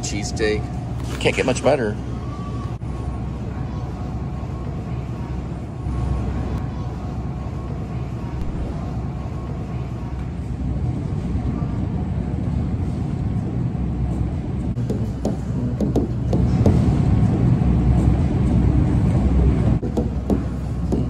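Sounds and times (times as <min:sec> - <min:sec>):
supermarket background rumble: 0:00.0 - 0:21.0.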